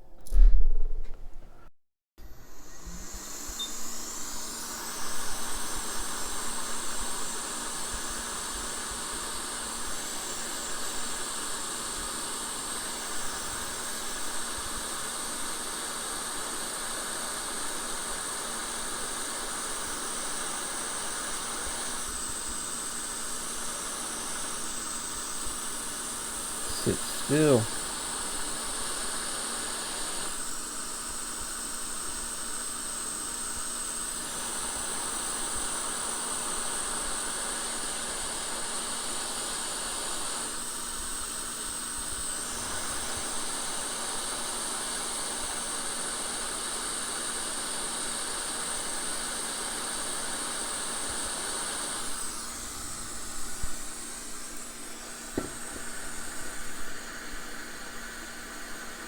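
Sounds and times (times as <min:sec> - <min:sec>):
air blowing hiss: 0:02.2 - 0:59.0.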